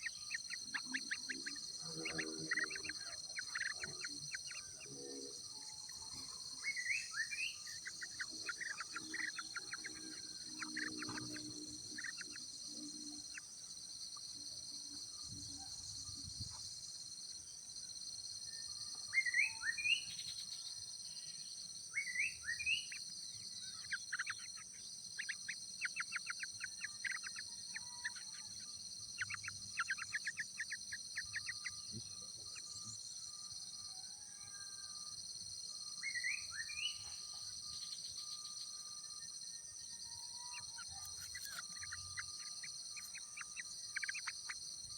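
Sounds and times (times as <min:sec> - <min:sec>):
high-pitched insect drone: 0:00.0 - 0:16.5, 0:22.1 - 0:44.9
birds chirping: 0:00.0 - 0:16.6, 0:18.4 - 0:34.3, 0:35.8 - 0:44.9.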